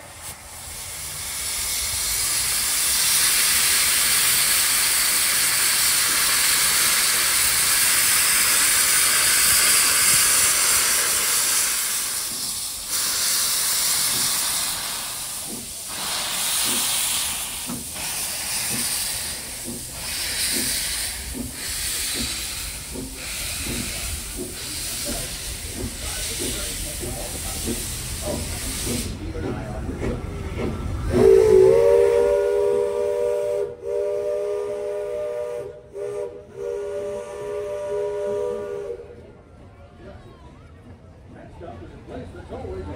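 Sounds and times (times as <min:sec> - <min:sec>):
train wheels clicking: 0:00.0 - 0:38.9
steam exhaust beats: 0:00.0 - 0:39.3
steam locomotive hissing: 0:00.0 - 0:39.3.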